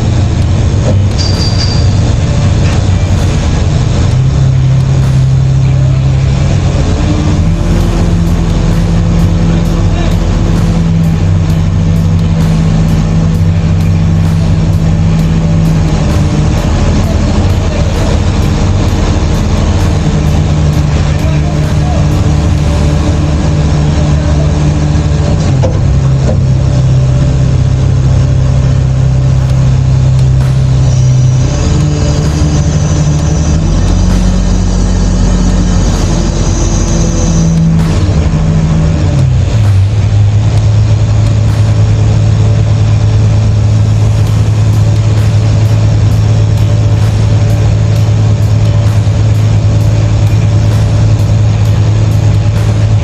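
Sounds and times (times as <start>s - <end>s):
diesel engine under load: 0.0s - 53.0s.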